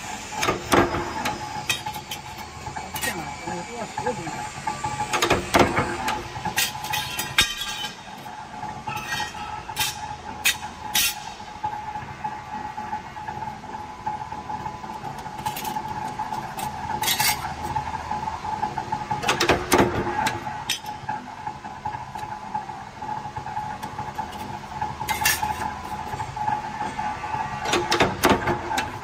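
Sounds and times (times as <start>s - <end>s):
punch press humming and whining: 0.0s - 29.0s.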